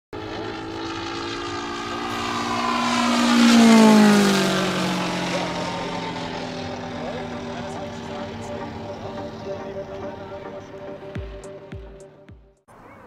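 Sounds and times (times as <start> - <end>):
model plane engine flying past: 0.2 - 11.8.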